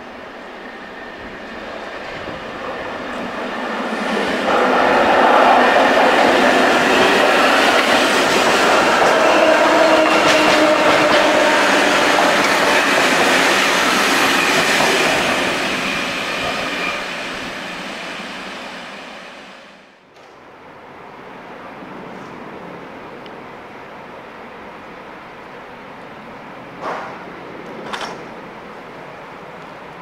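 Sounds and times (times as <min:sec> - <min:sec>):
electric train passing: 0:00.0 - 0:30.0.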